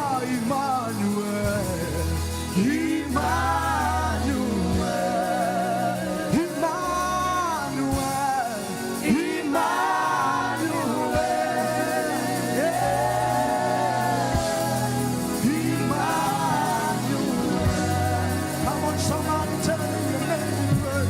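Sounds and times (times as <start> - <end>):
instrumental accompaniment: 0.0 - 21.0
person singing with vibrato: 0.0 - 21.0.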